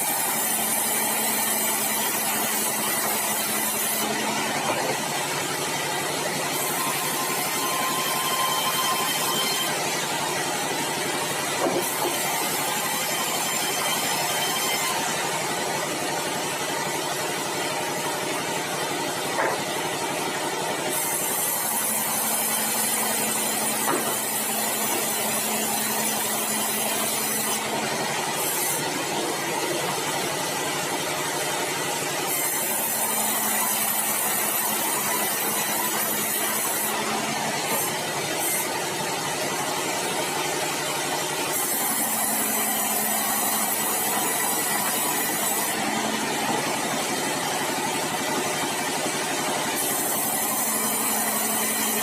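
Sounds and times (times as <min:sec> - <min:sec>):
band saw cutting timber: 0:00.0 - 0:52.0.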